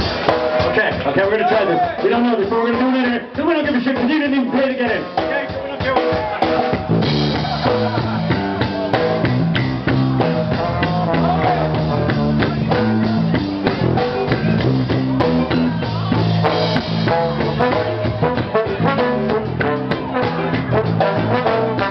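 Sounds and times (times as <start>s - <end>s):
live rock band playing: 0.0s - 21.9s.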